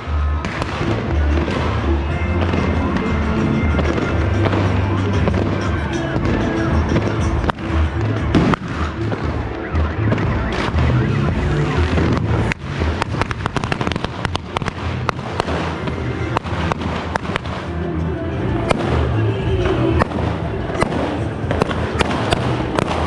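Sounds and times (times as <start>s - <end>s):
firecrackers cracking and popping: 0.0s - 17.8s, 18.6s - 19.2s, 20.0s - 23.0s
music with heavy bass: 0.0s - 23.0s.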